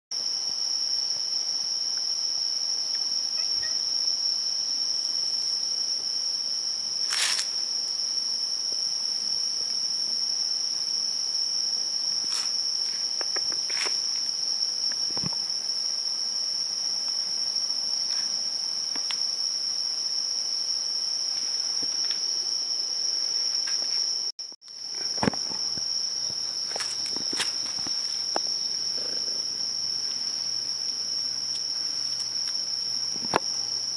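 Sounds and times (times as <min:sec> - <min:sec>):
night insects chorus: 0:00.2 - 0:33.9.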